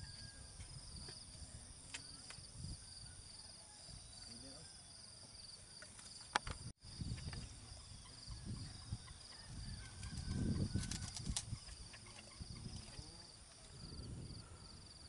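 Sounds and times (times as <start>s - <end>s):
insects chirping trill: 0.0s - 15.0s.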